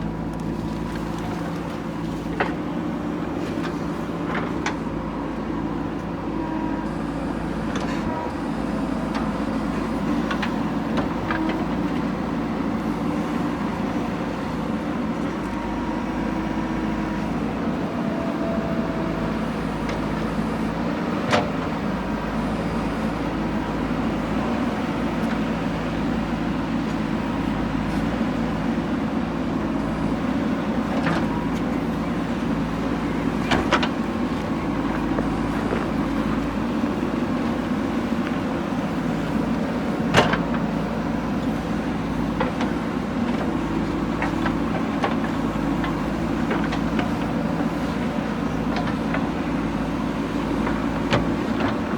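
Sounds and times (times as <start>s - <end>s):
diesel digger engine running: 0.0s - 51.9s.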